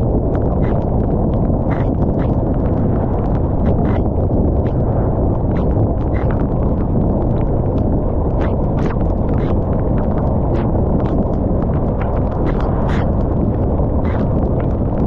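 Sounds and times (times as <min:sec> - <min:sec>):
rain in wind rumbling: 0:00.0 - 0:15.0.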